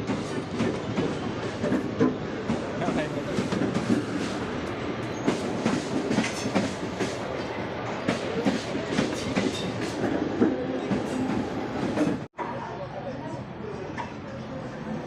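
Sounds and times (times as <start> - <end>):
train wheels rumbling on track: 0.0 - 12.3
metallic clacks of rail joints: 0.1 - 12.3.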